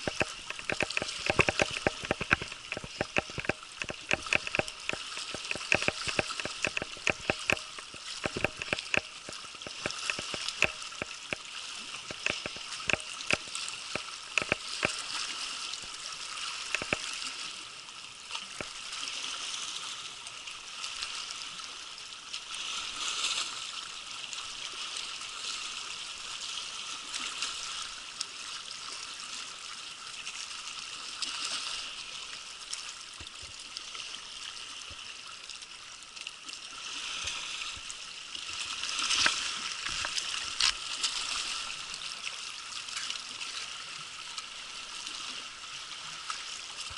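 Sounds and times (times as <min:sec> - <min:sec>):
sharp clicks and splashes: 0:00.0 - 0:46.9
waves sloshing among rocks: 0:00.0 - 0:46.9.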